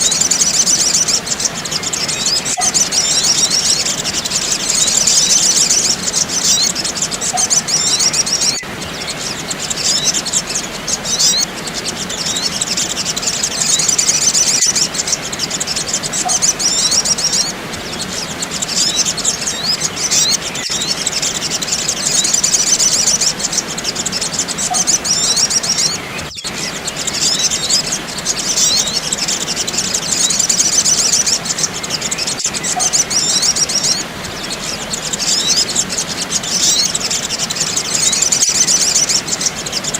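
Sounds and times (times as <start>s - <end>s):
sunbirds chirping and trilling: 0.0s - 39.9s.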